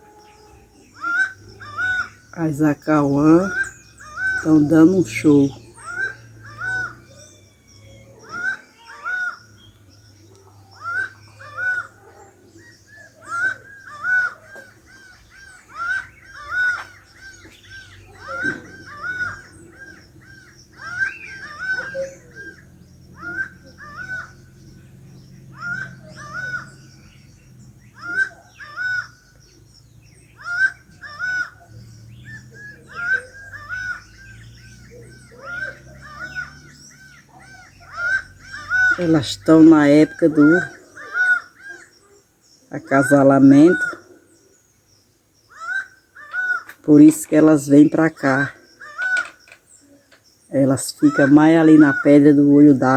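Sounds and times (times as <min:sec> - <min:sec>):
falcons calling: 0:00.0 - 0:52.9.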